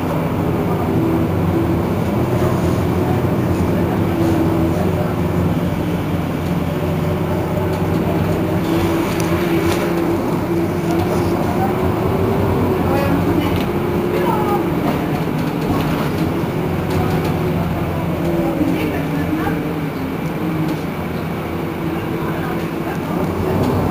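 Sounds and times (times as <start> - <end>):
bus engine drone with whine: 0.0 - 23.9.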